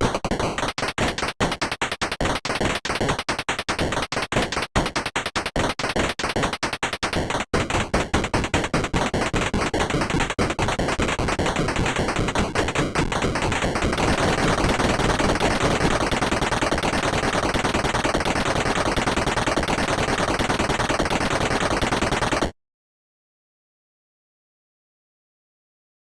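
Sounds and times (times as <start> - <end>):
rapid dense tapping rattle: 0.6 - 22.5.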